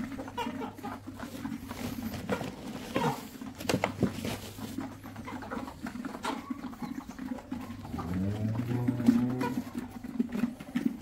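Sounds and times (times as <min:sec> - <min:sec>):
chickens calling: 0:00.0 - 0:11.0.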